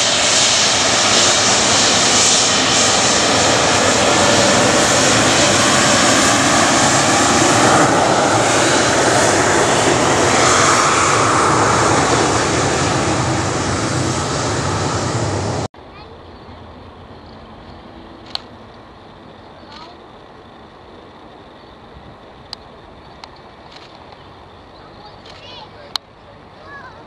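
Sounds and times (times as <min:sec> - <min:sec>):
jet engines: 0:00.0 - 0:27.0.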